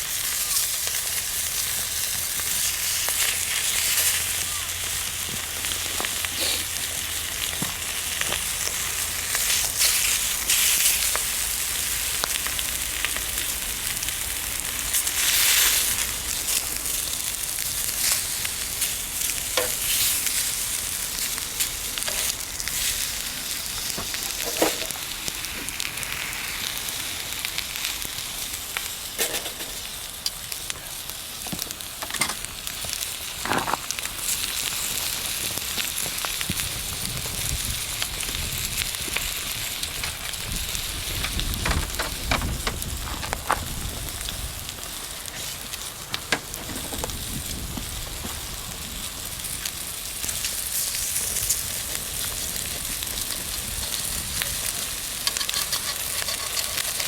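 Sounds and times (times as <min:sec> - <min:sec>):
food sizzling in a frying pan: 0:00.0 - 0:57.0.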